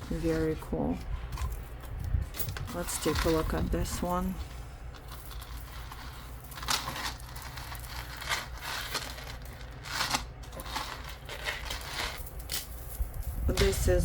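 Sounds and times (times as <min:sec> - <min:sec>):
chain necklaces rustling and clinking: 0:01.0 - 0:14.0.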